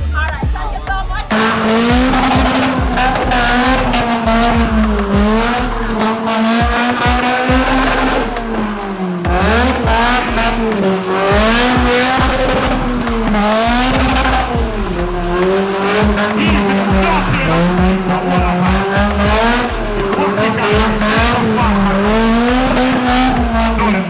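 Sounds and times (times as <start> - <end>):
car engine at high revs: 0.7 - 24.0
tyres squealing: 0.8 - 24.0.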